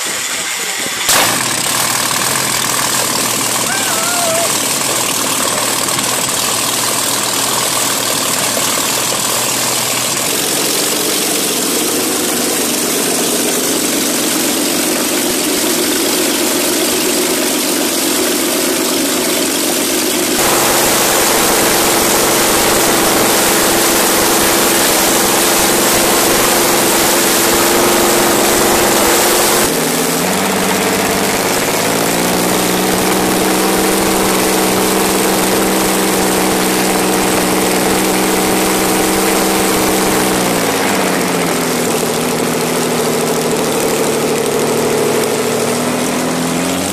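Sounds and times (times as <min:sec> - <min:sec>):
tank engine running: 0:00.0 - 0:46.9.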